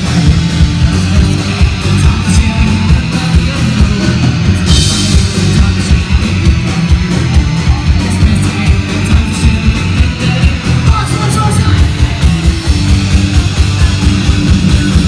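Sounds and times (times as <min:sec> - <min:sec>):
bass guitar: 0:00.0 - 0:15.0
drum kit: 0:00.0 - 0:15.0
electric guitars: 0:00.0 - 0:15.0.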